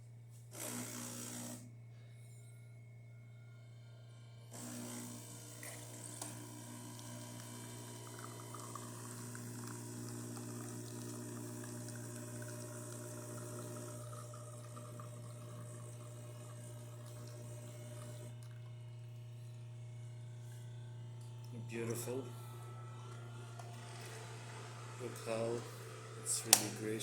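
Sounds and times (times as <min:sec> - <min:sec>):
espresso machine pump humming: 0:00.4 - 0:27.0.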